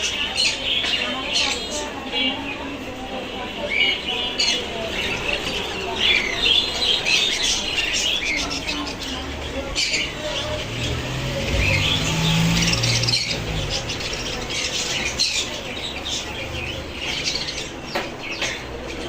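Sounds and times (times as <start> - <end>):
pigeons squawking and chirping: 0.0 - 19.0.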